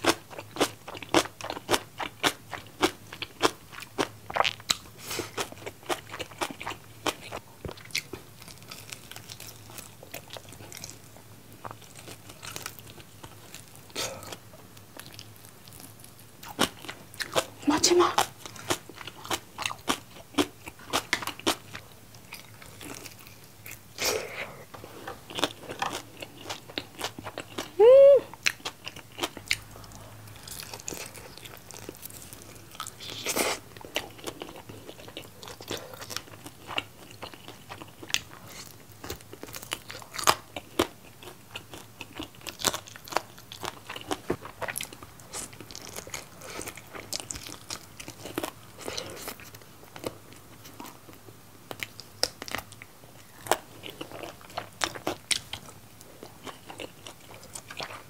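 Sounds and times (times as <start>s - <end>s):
crunchy chewing of fried chicken: 0.0s - 58.0s.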